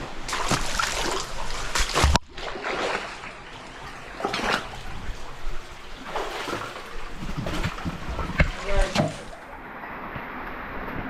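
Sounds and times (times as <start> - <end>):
people wading through water: 0.0 - 11.0.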